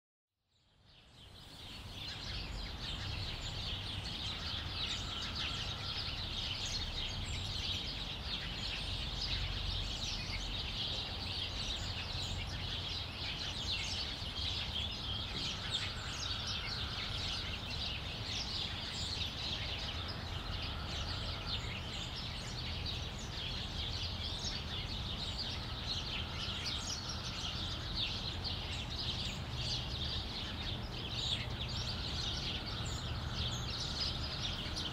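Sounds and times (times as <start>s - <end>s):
sparrows chirping: 0.5s - 34.9s.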